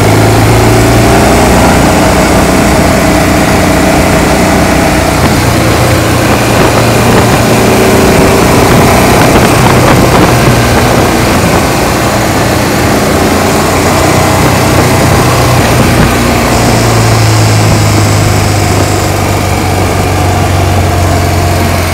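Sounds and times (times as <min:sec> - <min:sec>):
motorcycle engine running: 0:00.0 - 0:21.9
wind noise on microphone: 0:00.0 - 0:21.9.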